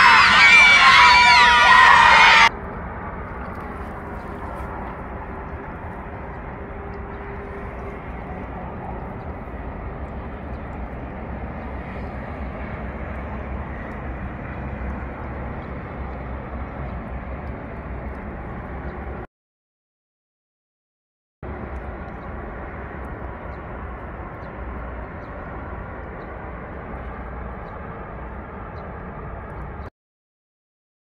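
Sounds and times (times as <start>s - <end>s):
outdoor rumble and hiss: 0.0s - 19.3s, 21.4s - 29.9s.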